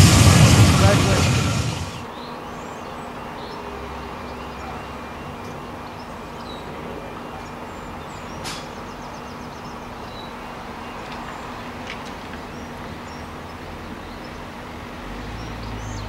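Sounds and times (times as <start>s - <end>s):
distant train rumble: 0.0s - 16.0s
small birds chirping: 0.1s - 16.0s.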